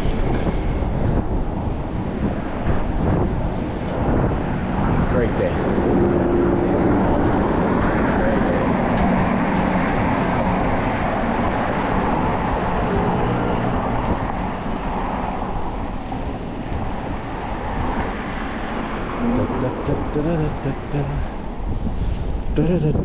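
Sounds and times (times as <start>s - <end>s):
city street traffic: 0.0s - 23.0s
motor vehicles humming: 0.0s - 23.0s
wind noise: 0.0s - 23.0s.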